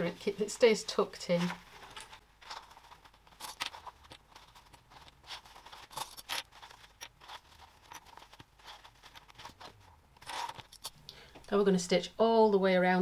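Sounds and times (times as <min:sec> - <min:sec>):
fabric rustling: 0:00.0 - 0:10.9.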